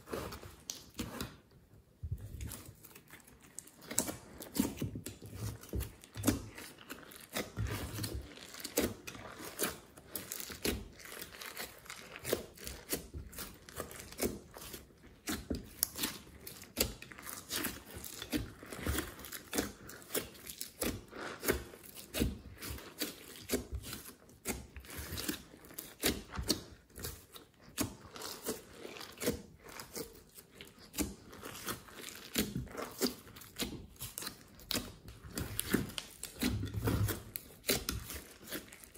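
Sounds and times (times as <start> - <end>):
slime clicking and crackling: 2.2 - 38.9.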